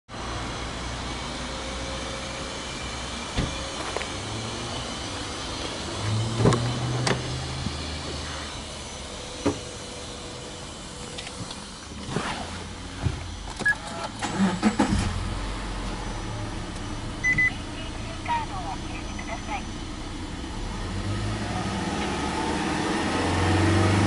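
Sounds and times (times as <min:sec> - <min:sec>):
steady low hum: 0:00.4 - 0:22.7.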